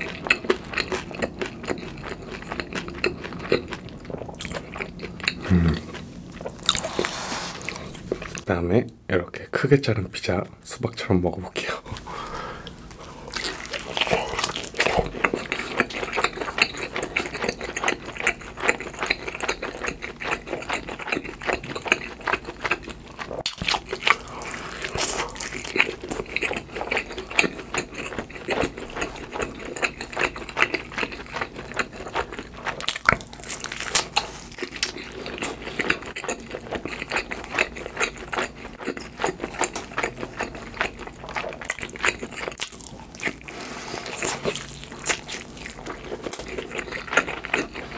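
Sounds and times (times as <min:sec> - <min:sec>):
chewing pizza: 0:00.0 - 0:08.5, 0:11.6 - 0:47.9.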